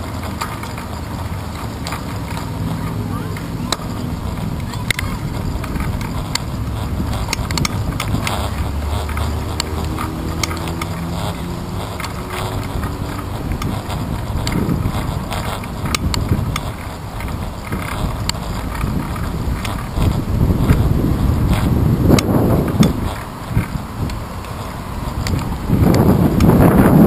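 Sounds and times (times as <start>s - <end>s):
bicycle tyres rumbling: 0.0s - 27.0s
bike rattling over bumps: 0.0s - 27.0s
wind on microphone: 1.2s - 27.0s.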